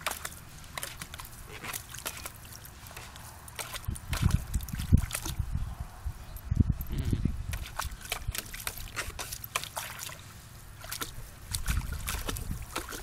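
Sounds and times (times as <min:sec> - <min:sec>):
puppy splashing in water: 0:00.0 - 0:05.5, 0:07.5 - 0:13.0.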